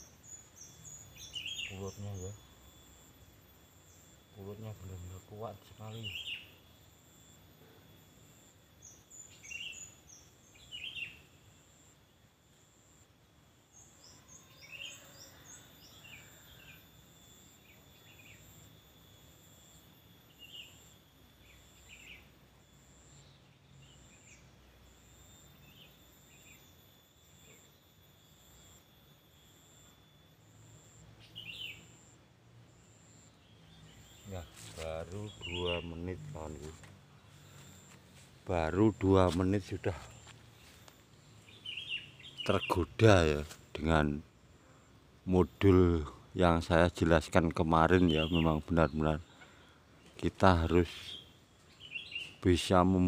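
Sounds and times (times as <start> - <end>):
small bird chirps: 0.0 - 3.2, 3.8 - 7.4, 8.4 - 11.9, 13.7 - 32.2, 32.9 - 37.9, 38.6 - 43.9, 48.0 - 52.7.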